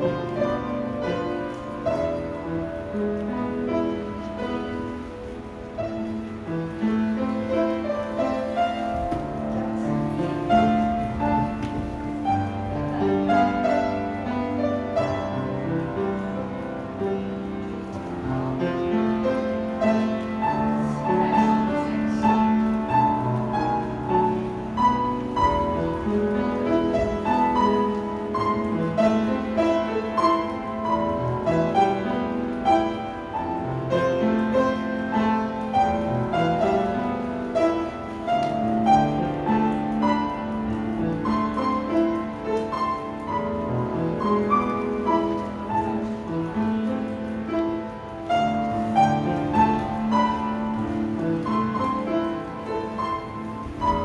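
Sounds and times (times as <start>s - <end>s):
classical piano music: 0.0s - 54.0s.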